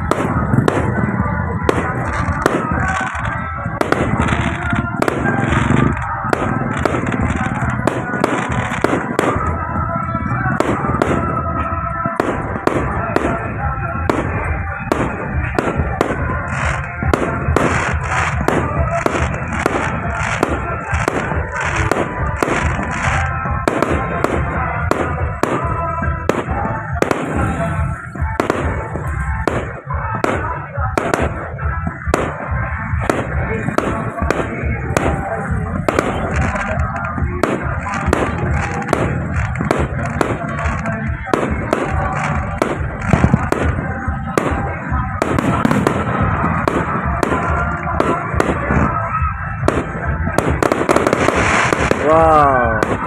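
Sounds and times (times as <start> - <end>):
fireworks bangs and crackles: 0.0 - 53.0
music playing: 0.0 - 53.0.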